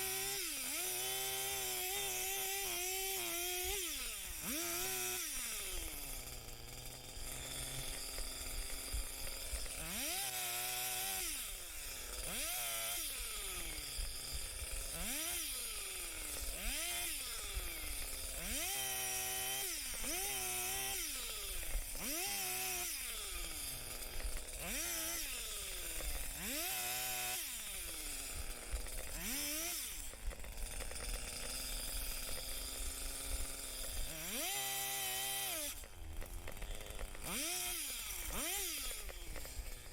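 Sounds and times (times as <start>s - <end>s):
chainsaw idling: 0.0s - 39.9s
chainsaw revving: 0.0s - 39.9s.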